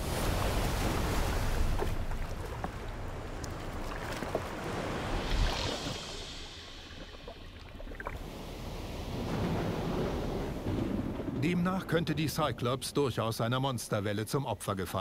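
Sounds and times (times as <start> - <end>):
water crashing and rushing: 0.0 - 13.9.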